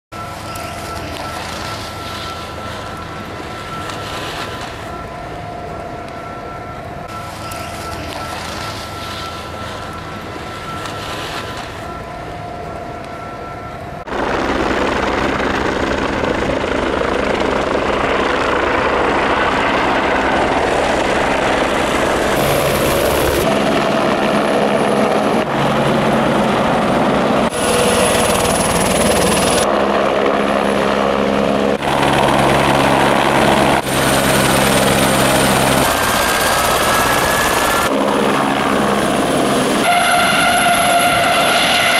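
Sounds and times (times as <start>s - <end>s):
helicopter turbine and rotor noise: 0.2s - 41.9s.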